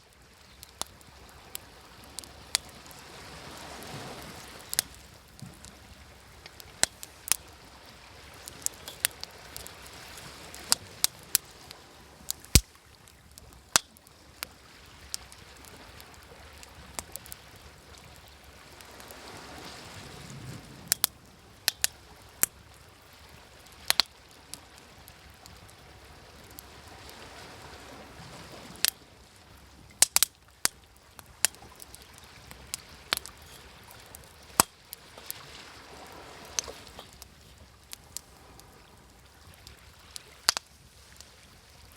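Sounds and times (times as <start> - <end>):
waves washing on shore: 0.0 - 41.9
wood fire crackling: 0.1 - 41.4.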